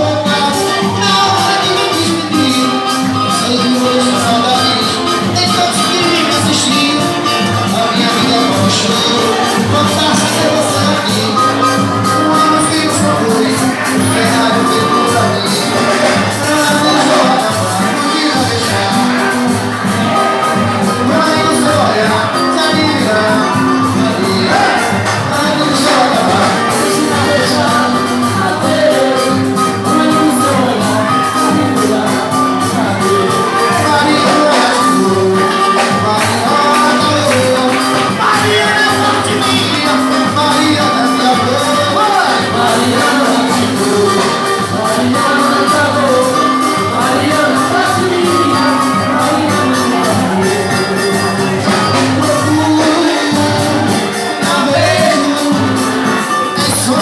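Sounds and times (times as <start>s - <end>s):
driving percussion: 0.0s - 57.0s
live band music: 0.0s - 57.0s
person singing: 0.0s - 57.0s.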